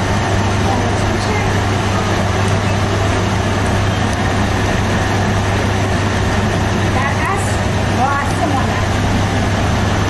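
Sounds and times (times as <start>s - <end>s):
machinery low hum: 0.0s - 10.0s
machinery rushing noise: 0.0s - 10.0s.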